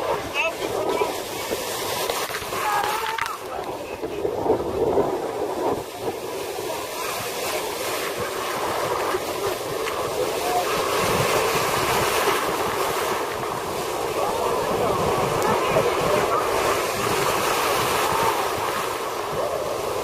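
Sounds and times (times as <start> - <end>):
surf breaking and churning: 0.0 - 20.0.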